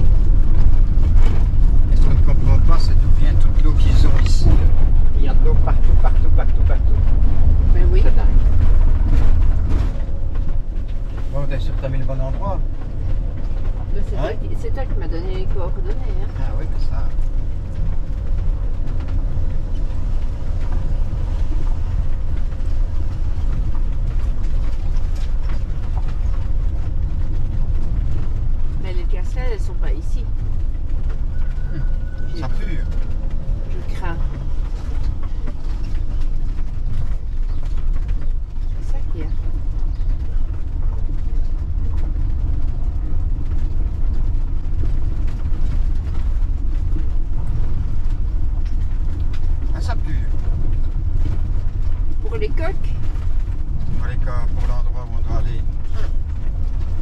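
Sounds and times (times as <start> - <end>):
engine rumble: 0.0 - 57.0
tyres on rough dirt road: 0.0 - 57.0
vehicle body rattling: 0.0 - 57.0.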